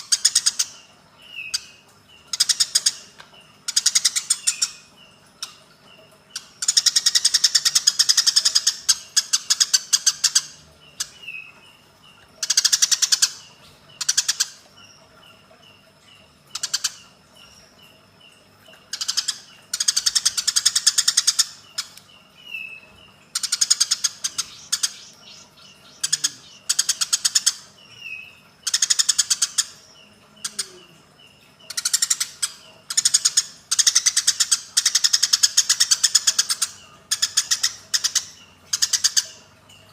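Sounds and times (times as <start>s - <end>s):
sparrows harsh chattering: 0.0s - 39.9s.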